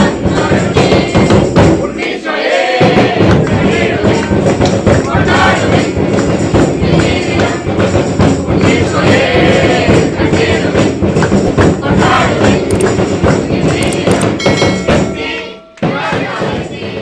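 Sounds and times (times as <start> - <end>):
group singing a carol: 0.0 - 17.0
tambourine: 0.0 - 17.0.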